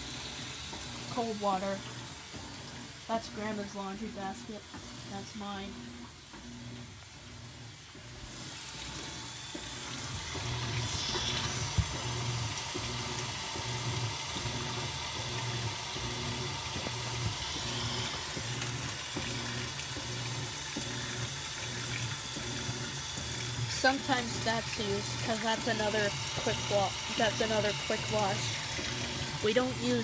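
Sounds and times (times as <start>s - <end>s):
valve vibrating: 0.0s - 30.0s
water rushing into washer: 0.0s - 30.0s.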